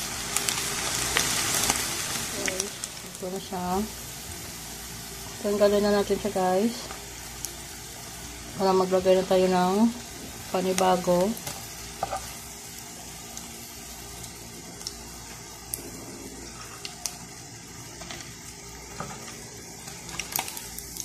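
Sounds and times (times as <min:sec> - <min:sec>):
fritters sizzling in oil: 0:00.0 - 0:21.0.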